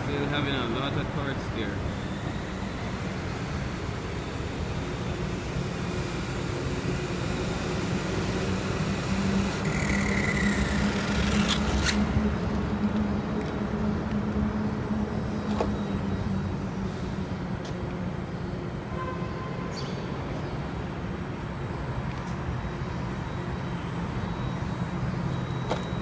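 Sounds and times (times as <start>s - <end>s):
vehicle noise with low hum: 0.0s - 26.0s.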